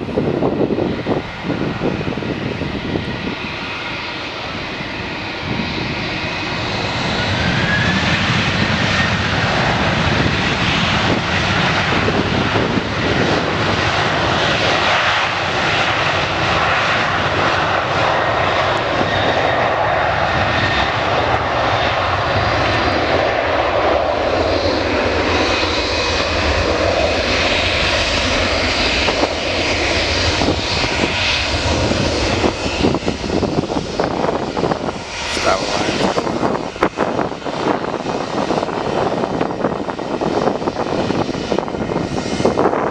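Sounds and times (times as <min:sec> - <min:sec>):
jet engines roaring: 0:00.0 - 0:42.9
rising engine whine: 0:00.0 - 0:42.9.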